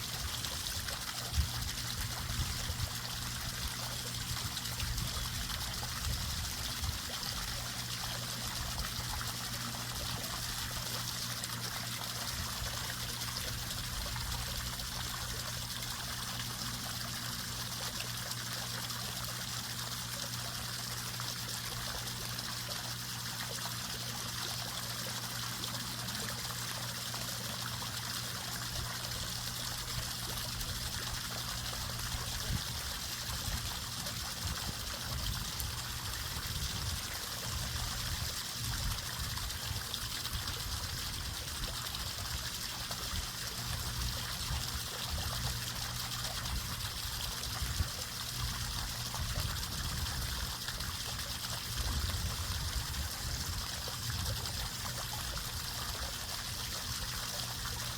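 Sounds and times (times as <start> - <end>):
water trickling: 0.0 - 57.9.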